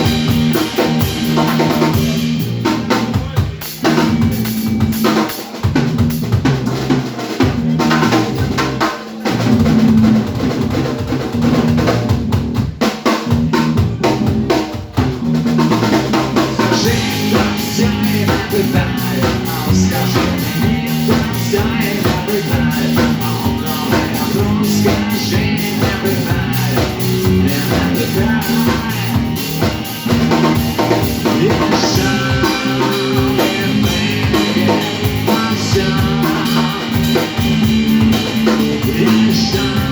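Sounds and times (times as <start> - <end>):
drum kit beat: 0.0 - 39.9
fuller instruments: 0.0 - 39.9.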